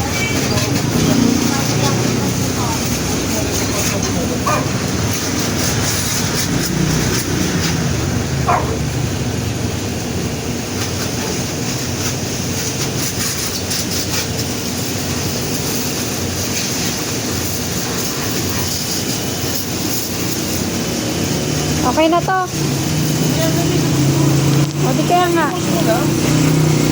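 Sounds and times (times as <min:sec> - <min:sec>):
water spray rushing: 0:00.0 - 0:26.9.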